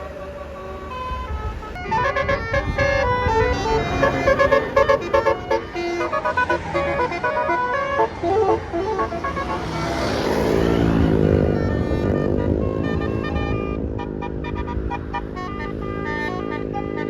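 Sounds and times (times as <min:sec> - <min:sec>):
bus engine passing: 0:00.0 - 0:17.0
bus horn playing a melody: 0:00.0 - 0:17.0.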